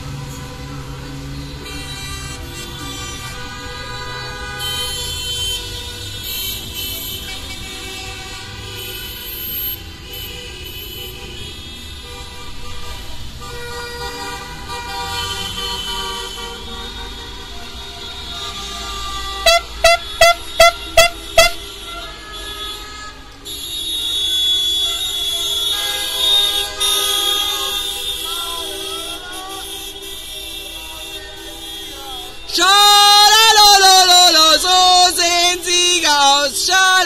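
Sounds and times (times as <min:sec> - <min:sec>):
car horns honking: 0:00.0 - 0:37.0
street traffic rumble: 0:00.0 - 0:37.0.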